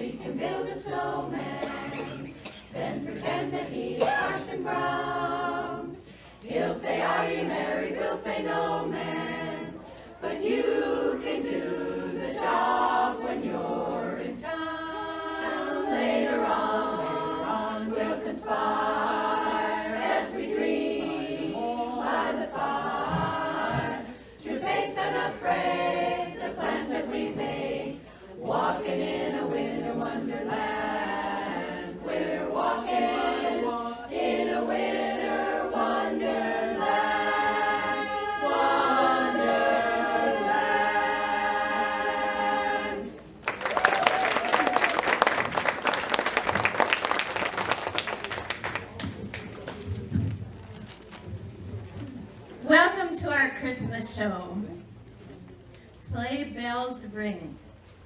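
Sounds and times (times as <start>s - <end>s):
women's chorus singing a cappella: 0.0s - 48.2s.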